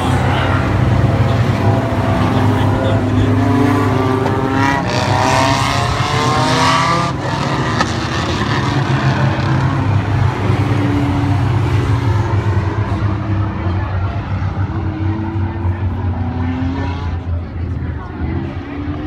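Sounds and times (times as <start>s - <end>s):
car engine accelerating: 0.0s - 19.0s
drone of racing car engines: 0.0s - 19.0s.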